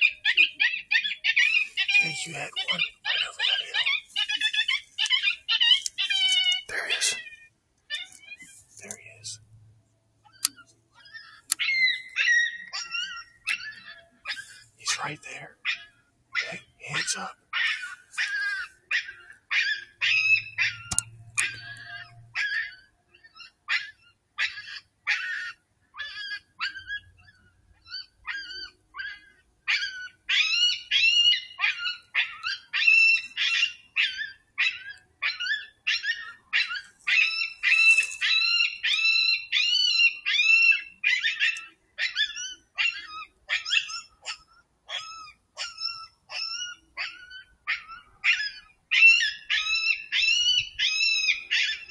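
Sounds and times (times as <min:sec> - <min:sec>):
animal yips and whimpers: 0:00.0 - 0:09.4, 0:10.2 - 0:51.9.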